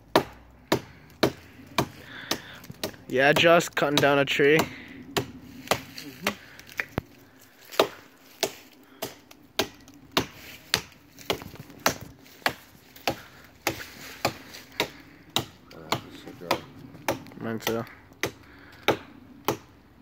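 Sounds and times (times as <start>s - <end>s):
axe chopping tree trunk: 0.1s - 19.7s.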